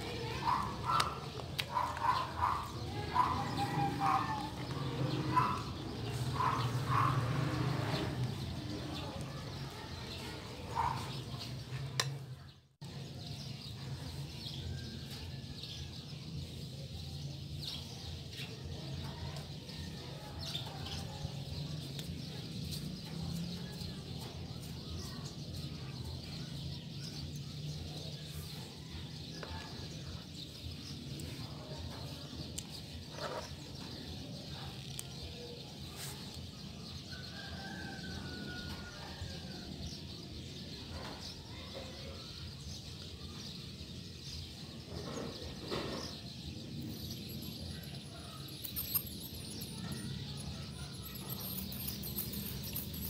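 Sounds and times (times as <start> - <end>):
birds chirping: 0.0 - 38.9, 39.9 - 53.0.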